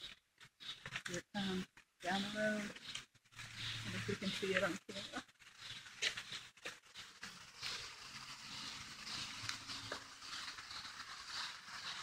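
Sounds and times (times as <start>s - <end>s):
rain falling on trees: 0.0s - 12.0s.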